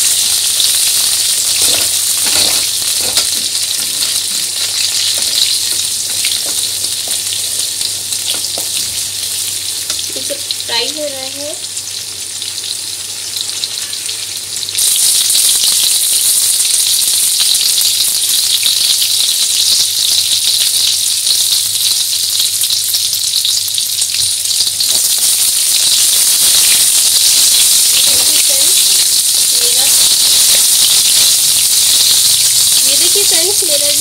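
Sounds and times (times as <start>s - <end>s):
vegetables frying in oil: 0.0s - 34.0s.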